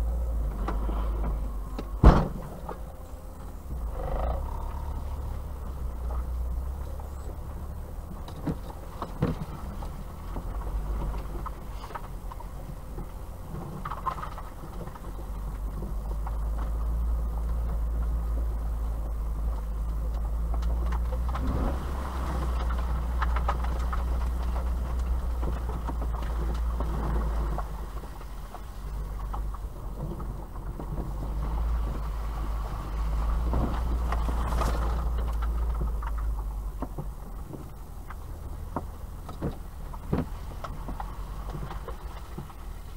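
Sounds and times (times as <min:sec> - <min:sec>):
car engine and road rumble: 0:00.0 - 0:42.9
car knocking over bumps: 0:00.0 - 0:42.9.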